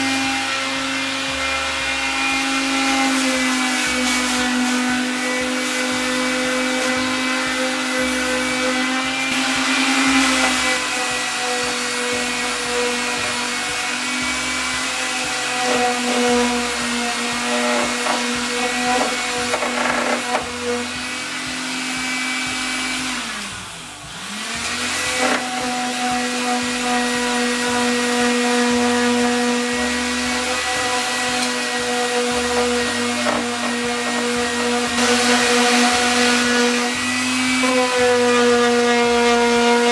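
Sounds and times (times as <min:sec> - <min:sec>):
power sander whining: 0:00.0 - 0:39.9.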